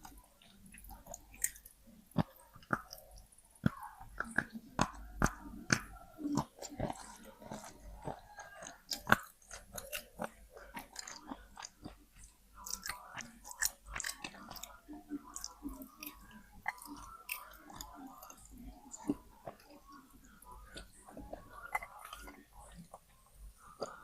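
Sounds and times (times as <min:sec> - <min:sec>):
chewing crunchy stone: 0:00.0 - 0:24.0.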